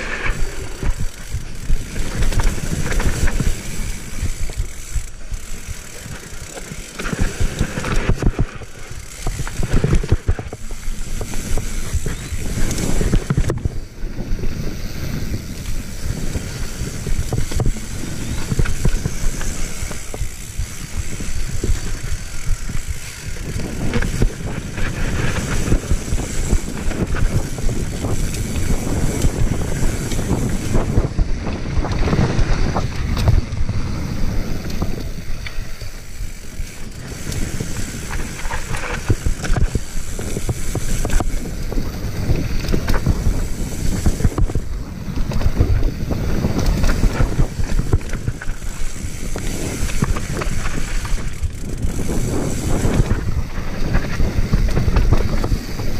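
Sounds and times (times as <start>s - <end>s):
bike clattering and rattling: 0.0s - 55.9s
bike tyres rumbling over dirt: 0.0s - 55.9s
wind buffeting microphone: 0.0s - 55.9s.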